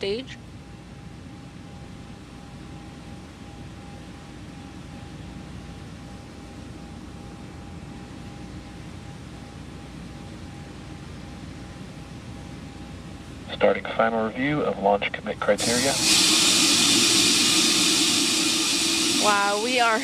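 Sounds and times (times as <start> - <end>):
faint even hum: 0.0 - 20.0.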